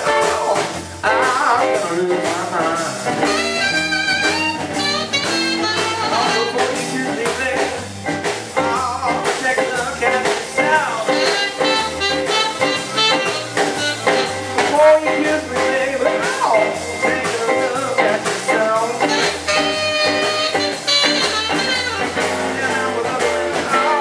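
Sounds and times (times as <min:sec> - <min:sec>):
drums keeping a steady beat: 0:00.0 - 0:24.0
electric bass: 0:00.0 - 0:24.0
electric guitar: 0:00.0 - 0:24.0.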